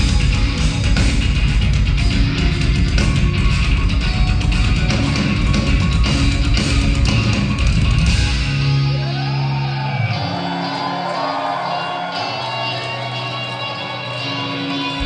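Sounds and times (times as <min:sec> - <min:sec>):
drums: 0:00.0 - 0:15.0
heavy electric guitars: 0:00.0 - 0:15.0.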